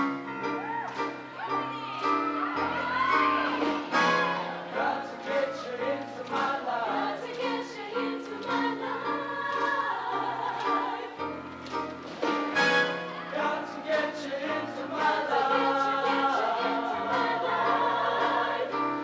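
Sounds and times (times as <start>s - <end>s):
choir singing: 2.0s - 11.5s, 12.5s - 19.0s.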